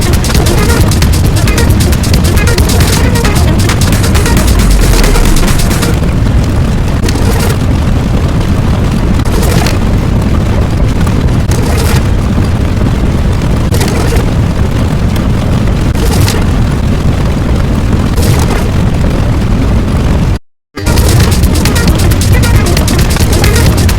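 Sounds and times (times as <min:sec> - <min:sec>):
crackling bursts: 0:00.0 - 0:23.9
deep rumbling explosion: 0:00.0 - 0:23.9.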